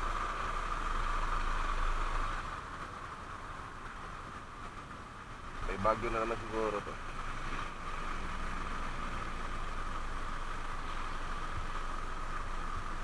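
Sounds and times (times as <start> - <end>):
motorcycle engine hum: 0.0 - 13.0
wind and rain hiss: 0.0 - 13.0.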